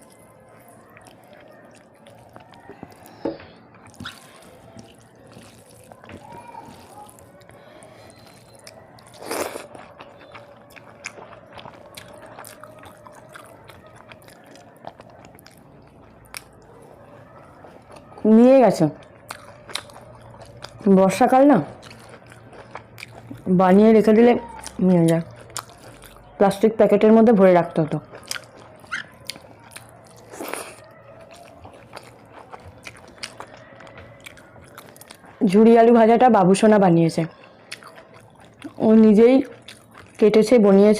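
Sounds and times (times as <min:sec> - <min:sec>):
person chewing: 0:00.0 - 0:17.0, 0:17.6 - 0:18.2, 0:19.0 - 0:26.4, 0:27.9 - 0:35.5, 0:37.3 - 0:40.5
food crunch: 0:00.0 - 0:26.6, 0:27.7 - 0:35.5, 0:37.2 - 0:40.5.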